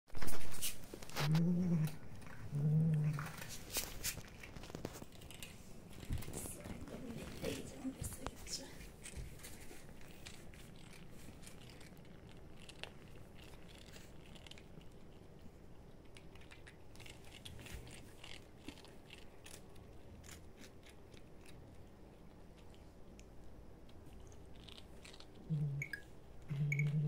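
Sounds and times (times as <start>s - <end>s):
cats crunching dry biscuits: 0.2s - 27.0s.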